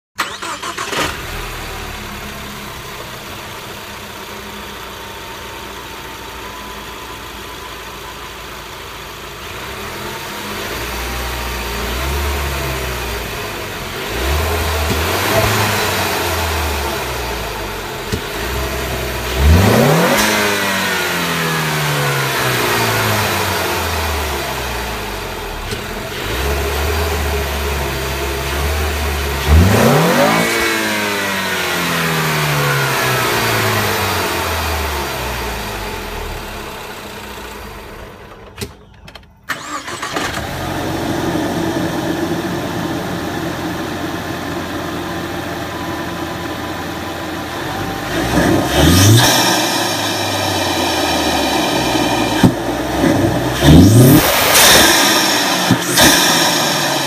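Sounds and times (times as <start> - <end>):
car engine idling and revving: 0.1 - 57.0.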